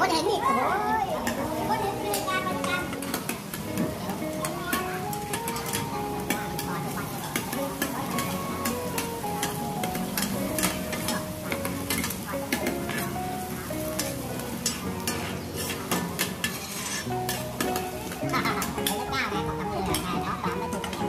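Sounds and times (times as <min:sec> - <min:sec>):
background melody: 0:00.0 - 0:21.0
batter sizzling in a pan: 0:00.0 - 0:21.0
metal spatulas scraping a pan: 0:01.2 - 0:13.2, 0:13.8 - 0:21.0.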